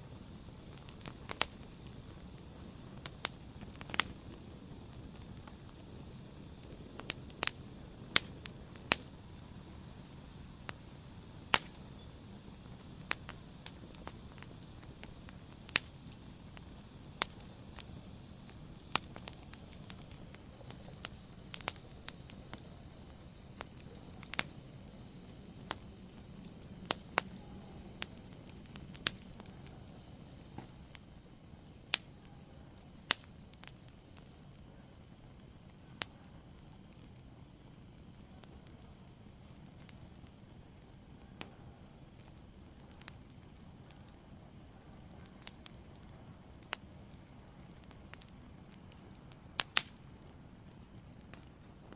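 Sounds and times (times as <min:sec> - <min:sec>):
fire crackling and popping: 0:00.0 - 0:51.9
hiss of flames: 0:00.0 - 0:51.9.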